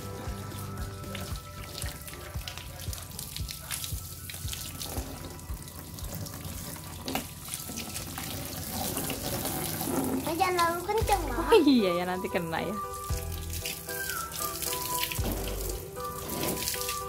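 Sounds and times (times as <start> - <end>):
water splashing on tiled floor: 0.0 - 11.6, 12.3 - 17.0
background music: 0.0 - 17.0
hose water spraying on plastic: 0.0 - 17.0.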